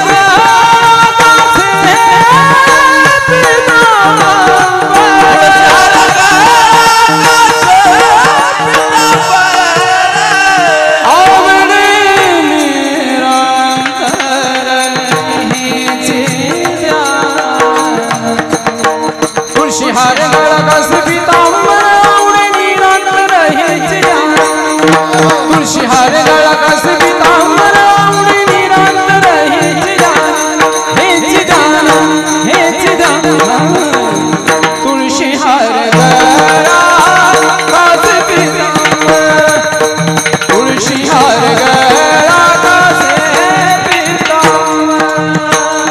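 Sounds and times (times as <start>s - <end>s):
hand drum playing: 0.0s - 12.7s, 13.7s - 45.9s
man singing: 0.0s - 45.9s.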